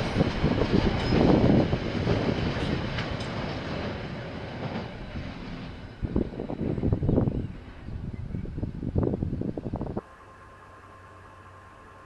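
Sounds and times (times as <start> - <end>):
train wheels rumbling on track: 0.0 - 9.9.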